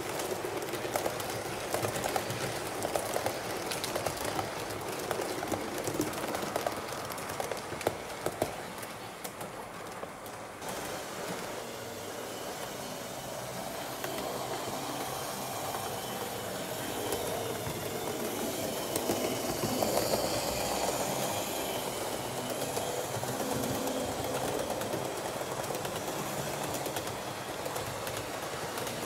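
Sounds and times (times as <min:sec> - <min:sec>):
model train wheels rattling on rails: 0:00.0 - 0:29.0.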